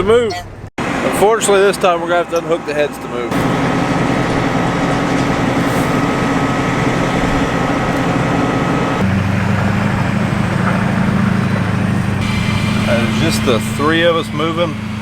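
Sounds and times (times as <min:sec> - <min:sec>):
combine harvester engine running: 0:00.8 - 0:15.0.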